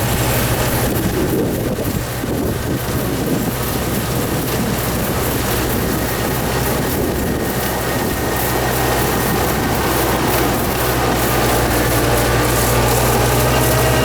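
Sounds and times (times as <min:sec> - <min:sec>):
farm machine engine running: 0:00.0 - 0:14.0.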